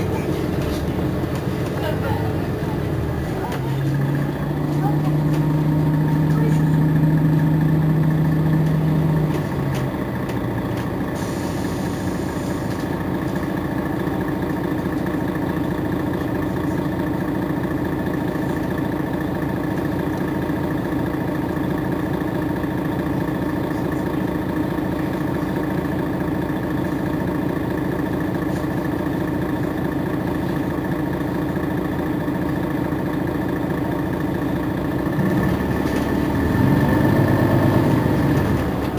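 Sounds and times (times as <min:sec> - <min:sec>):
bus engine idling: 0:00.0 - 0:38.9.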